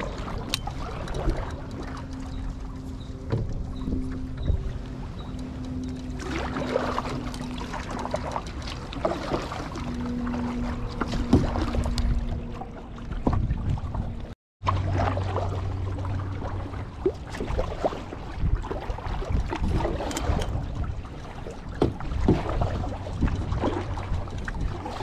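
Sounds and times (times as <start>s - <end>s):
paddle strokes splashing: 0.0s - 25.0s
water slapping against hull: 0.0s - 25.0s.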